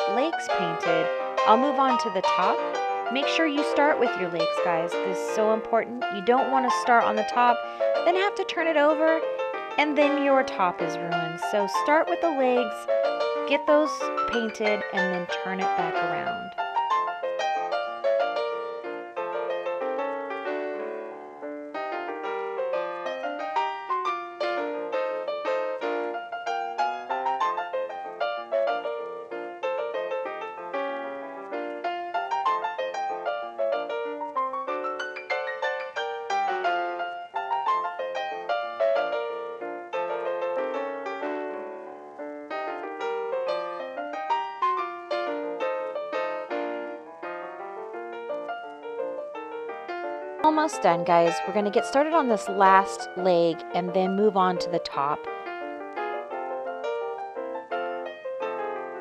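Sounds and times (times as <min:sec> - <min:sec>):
piano melody: 0:00.0 - 0:59.0.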